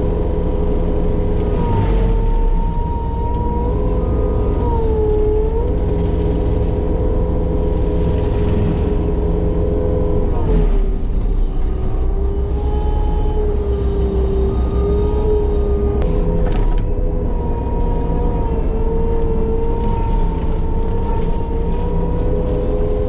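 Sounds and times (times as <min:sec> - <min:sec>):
diesel engine low rumble: 0:00.0 - 0:23.0
high whine of spinning mulcher: 0:00.0 - 0:23.0.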